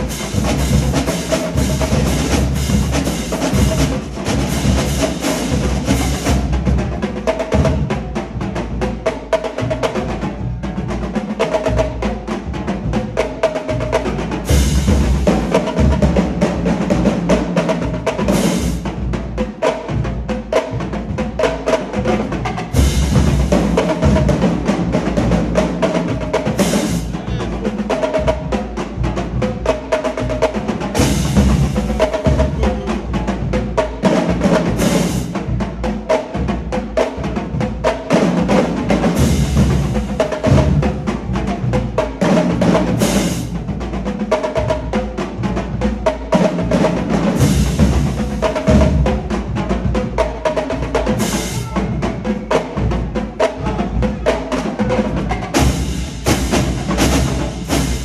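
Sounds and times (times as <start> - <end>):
marching drumline playing: 0.0 - 58.0.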